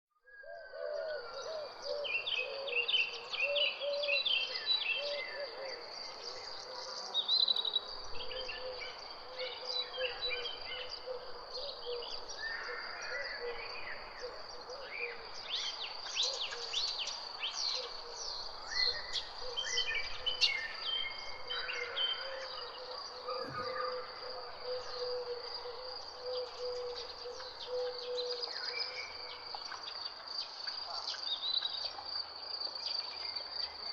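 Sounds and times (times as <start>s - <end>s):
birds chirping and trilling: 0.2s - 33.9s.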